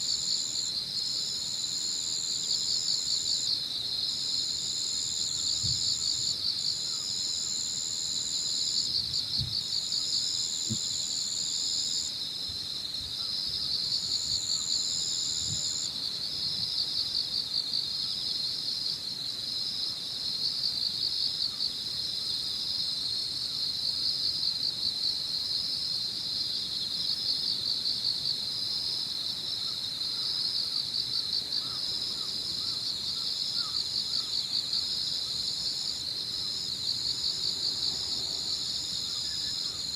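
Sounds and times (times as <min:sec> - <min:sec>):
crickets trilling: 0:00.0 - 0:39.9
high insect trill: 0:00.0 - 0:39.9.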